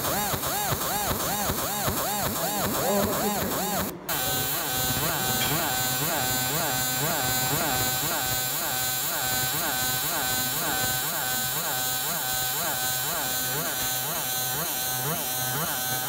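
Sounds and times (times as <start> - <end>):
laser scanner head buzzing: 0.0 - 16.0
pulsing whine over high tone: 0.0 - 16.0.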